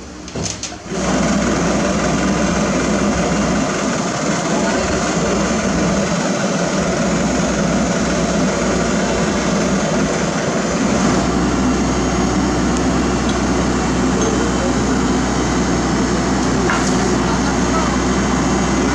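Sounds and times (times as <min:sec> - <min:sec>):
paving machinery diesel engine drone: 0:00.0 - 0:18.9.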